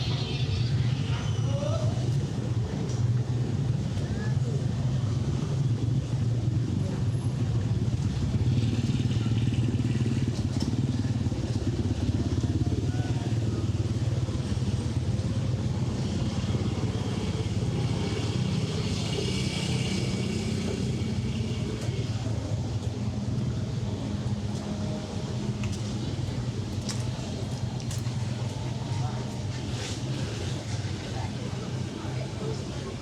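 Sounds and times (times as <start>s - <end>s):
traffic engine hum: 0.0s - 33.0s.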